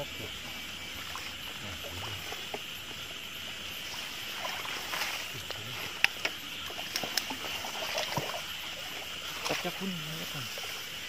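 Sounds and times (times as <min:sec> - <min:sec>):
insects chirping: 0:00.0 - 0:11.0
rustling through grass and leaves: 0:00.0 - 0:11.0.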